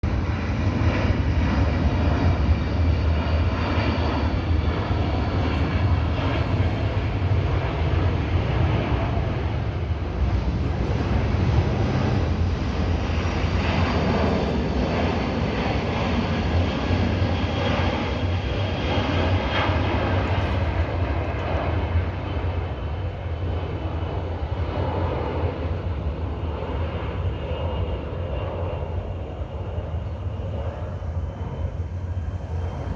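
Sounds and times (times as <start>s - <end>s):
airplane passing over: 0.0s - 32.9s.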